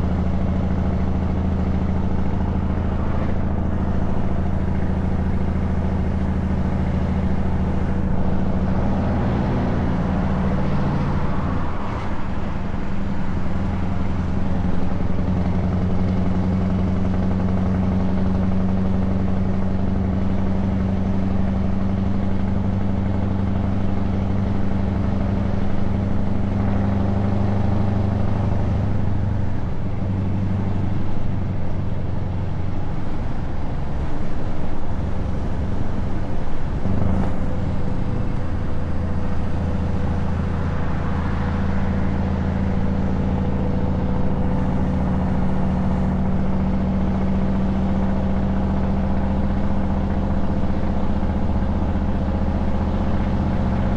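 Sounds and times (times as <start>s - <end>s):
truck diesel engine droning: 0.0s - 53.9s.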